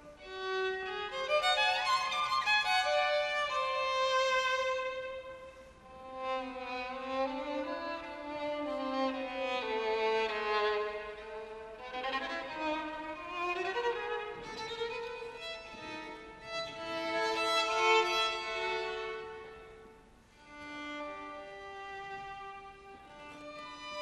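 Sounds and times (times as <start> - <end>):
solo violin melody: 0.0 - 24.0.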